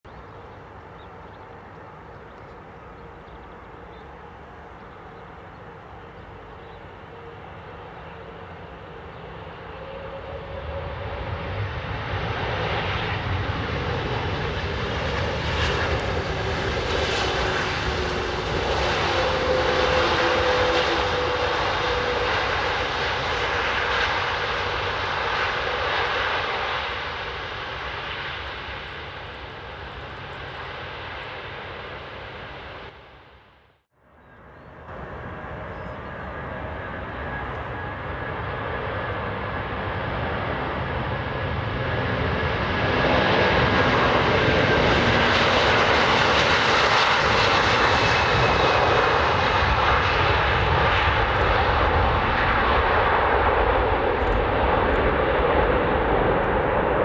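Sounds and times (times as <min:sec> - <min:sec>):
jet airliner passing: 0:00.1 - 0:57.0.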